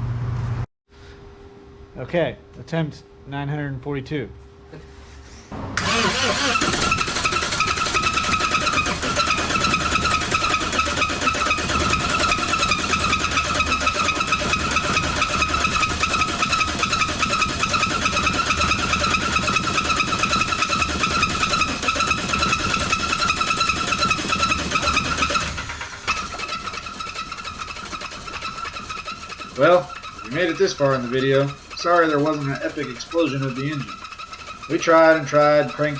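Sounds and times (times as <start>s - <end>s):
starter motor cranking engine: 5.8s - 35.9s.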